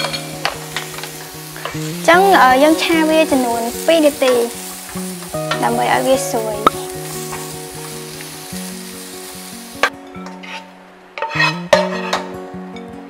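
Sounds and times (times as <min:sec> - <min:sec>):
carrots sizzling in a frying pan: 0:00.0 - 0:10.6.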